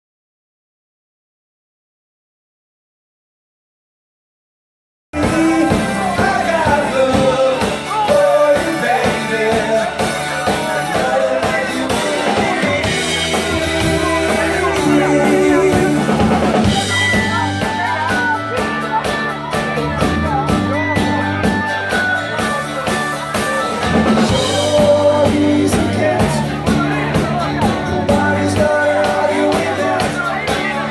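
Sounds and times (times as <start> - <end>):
man singing lead vocal: 5.2 - 30.9
rock band playing: 5.2 - 30.9.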